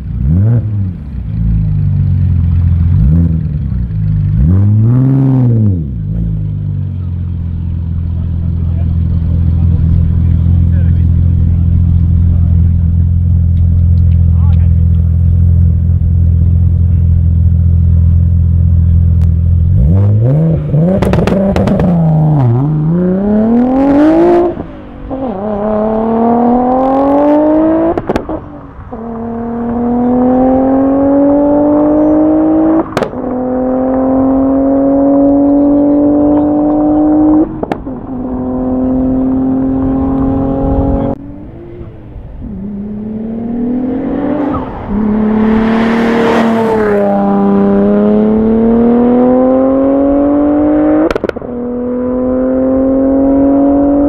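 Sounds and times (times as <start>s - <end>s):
car engine revving and accelerating: 0.0s - 54.0s.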